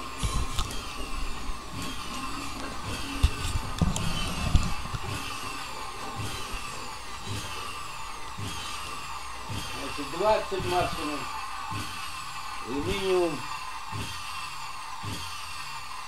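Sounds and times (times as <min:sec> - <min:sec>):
vacuum cleaner motor humming: 0:00.0 - 0:16.0.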